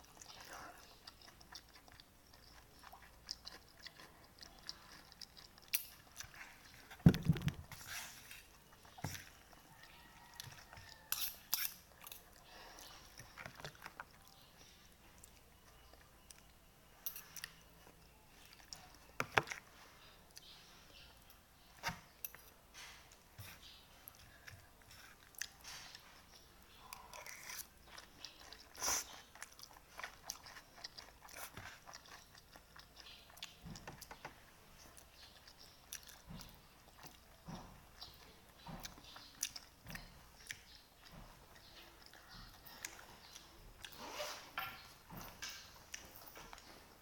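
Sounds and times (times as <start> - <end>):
person chewing crunchy food: 0.0 - 21.7, 22.3 - 44.4.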